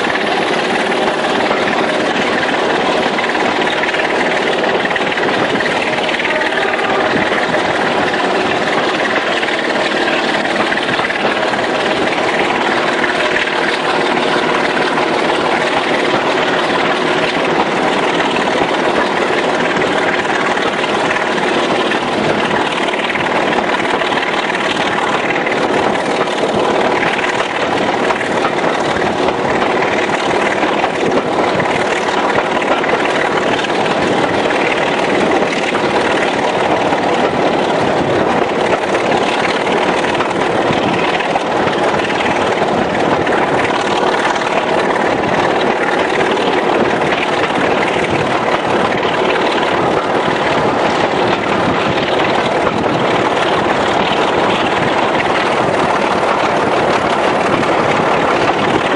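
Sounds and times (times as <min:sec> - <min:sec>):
diesel locomotive engine working: 0:00.0 - 0:58.9
rush and rail noise of train: 0:00.0 - 0:58.9.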